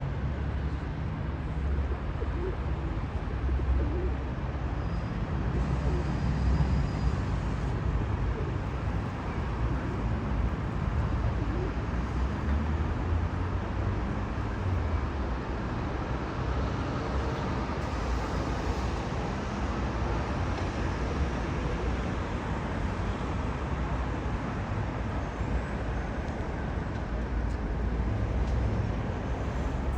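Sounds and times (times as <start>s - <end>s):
road traffic rumble: 0.0s - 29.9s.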